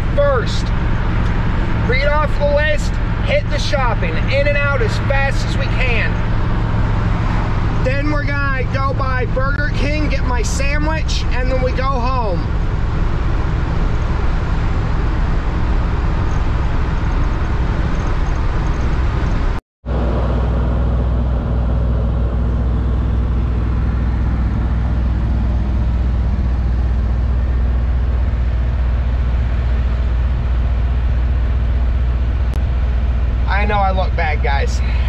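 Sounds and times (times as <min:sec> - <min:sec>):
pickup truck engine and road noise: 0:00.0 - 0:35.0.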